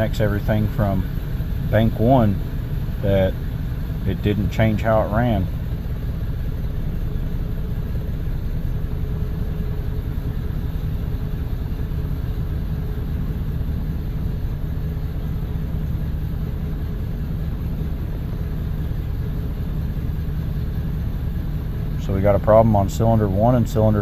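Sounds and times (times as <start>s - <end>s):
engine idling with misfire: 0.0s - 24.0s.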